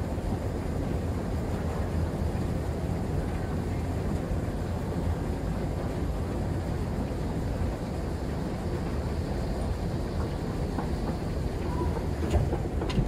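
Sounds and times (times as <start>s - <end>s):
escalator rumbling: 0.0s - 13.0s.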